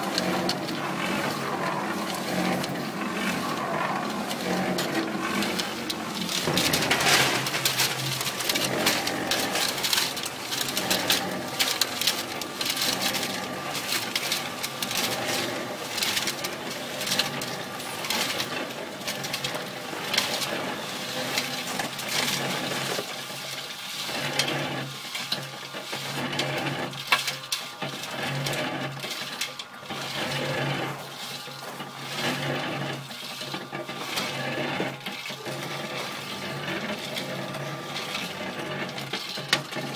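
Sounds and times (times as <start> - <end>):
cement mixer motor hum: 0.0 - 39.9
gravel rattling in mixer drum: 0.0 - 39.9.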